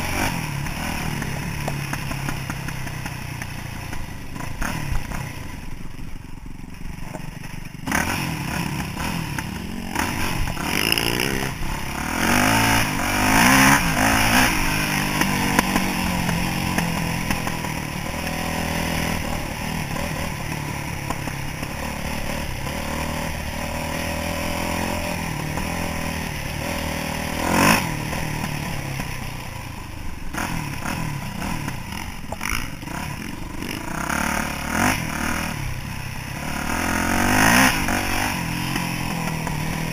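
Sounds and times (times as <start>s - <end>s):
dirt bike engine revving: 0.0s - 5.7s, 7.6s - 39.9s.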